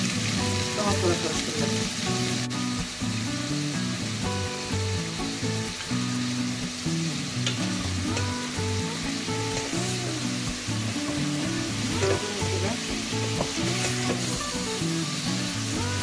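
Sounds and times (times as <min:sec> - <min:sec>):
chicken sizzling in oil: 0:00.0 - 0:16.0
soft background music: 0:00.0 - 0:16.0.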